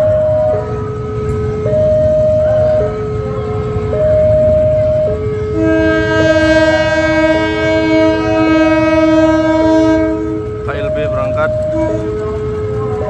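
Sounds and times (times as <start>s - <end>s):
two-tone crossing alarm: 0.0s - 13.0s
locomotive horn blast: 2.3s - 12.8s.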